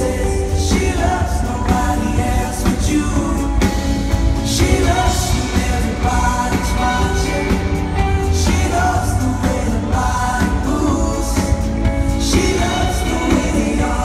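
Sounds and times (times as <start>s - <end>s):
lead vocal singing: 0.0s - 14.0s
live band playing: 0.0s - 14.0s.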